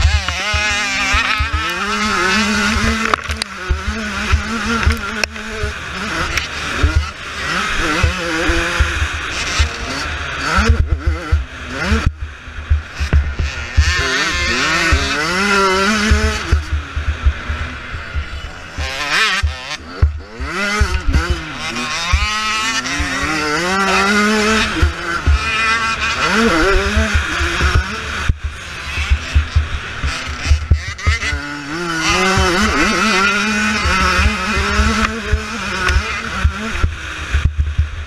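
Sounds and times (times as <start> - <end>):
motocross bike engine racing: 0.0 - 38.0.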